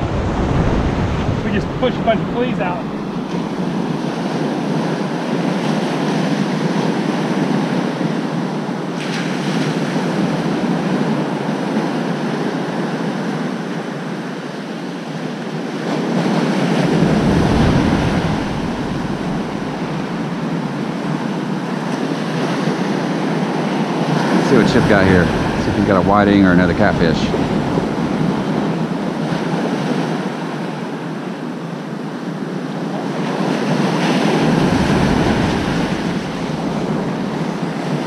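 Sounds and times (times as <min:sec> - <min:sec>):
wind buffeting microphone: 0:00.0 - 0:14.2, 0:15.0 - 0:38.0
ocean surf breaking: 0:00.0 - 0:38.0.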